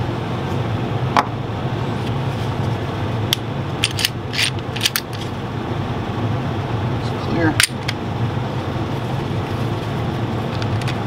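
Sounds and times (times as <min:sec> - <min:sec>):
air conditioner hum: 0:00.0 - 0:11.0.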